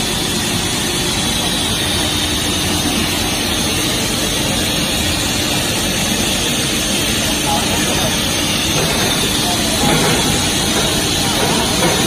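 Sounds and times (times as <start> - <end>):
extrusion machine whir and hiss: 0.0 - 12.0.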